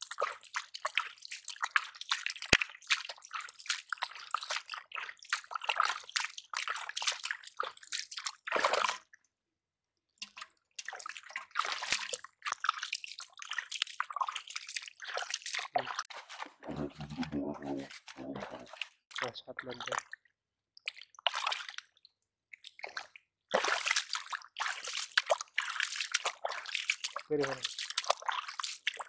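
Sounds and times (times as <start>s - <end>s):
muddy water sloshing and squelching: 0.0s - 9.3s, 10.1s - 29.0s.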